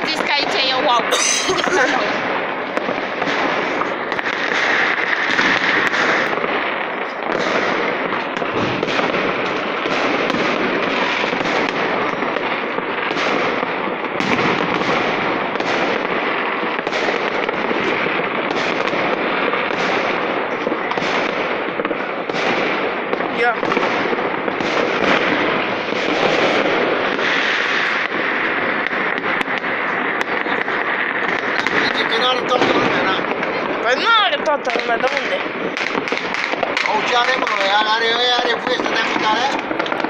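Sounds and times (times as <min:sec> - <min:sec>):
fireworks crackling and banging: 0:00.0 - 0:40.0.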